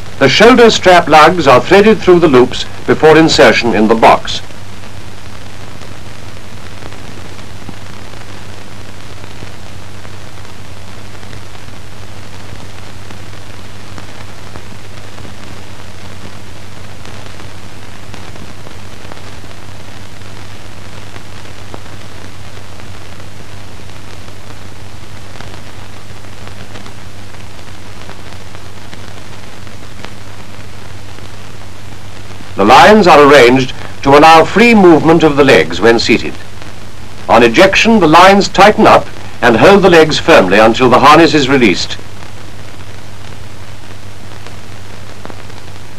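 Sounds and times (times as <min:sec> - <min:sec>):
film soundtrack hiss: 0:00.0 - 0:45.9.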